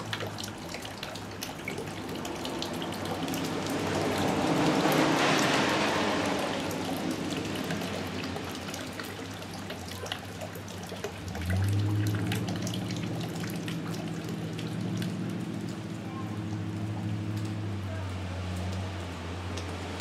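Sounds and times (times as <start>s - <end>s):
raindrops hitting ground: 0.0s - 20.0s.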